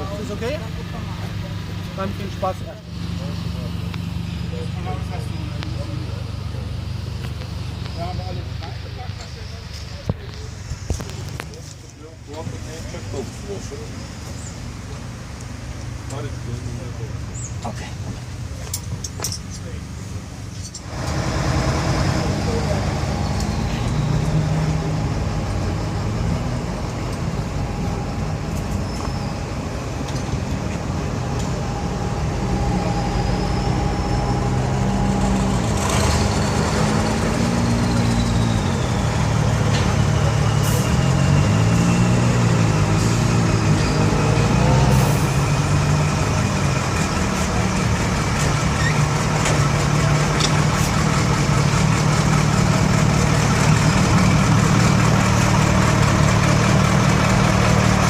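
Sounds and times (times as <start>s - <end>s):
off-road vehicle engine idling and revving: 0.0s - 58.0s.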